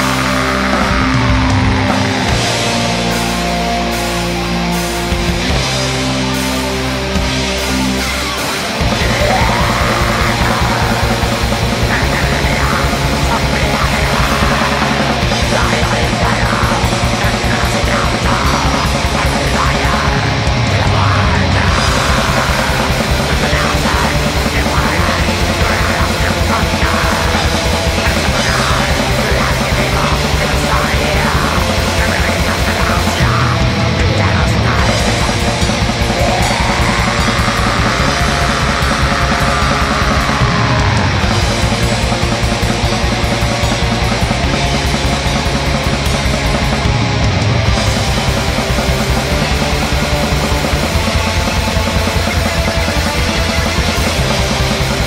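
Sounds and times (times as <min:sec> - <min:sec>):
black metal music: 0:00.0 - 0:55.0.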